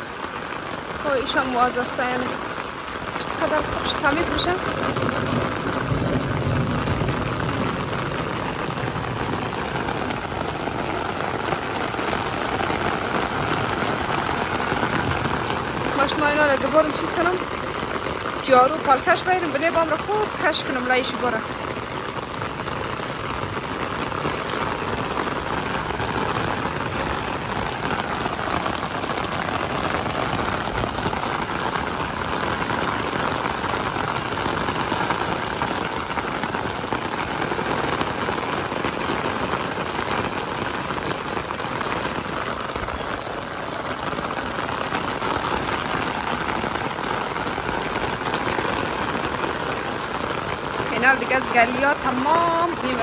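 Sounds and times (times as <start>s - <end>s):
rain splashing on concrete: 0.0s - 53.0s.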